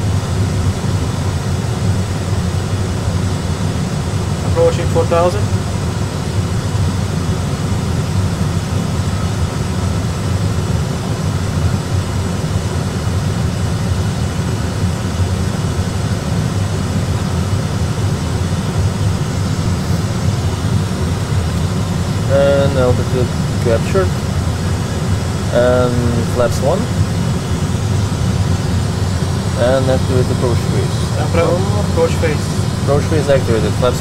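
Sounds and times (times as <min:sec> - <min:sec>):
cockpit airflow and engine rumble: 0:00.0 - 0:34.0.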